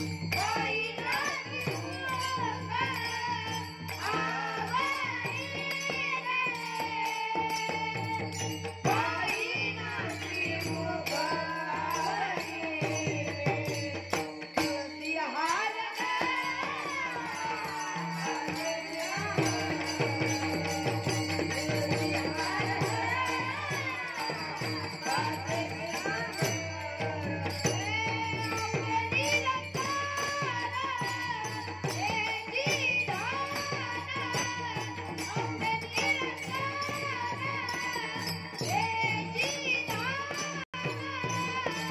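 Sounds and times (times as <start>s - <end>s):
boy singing: 0.0s - 41.9s
small hand cymbals clashing: 0.0s - 41.9s.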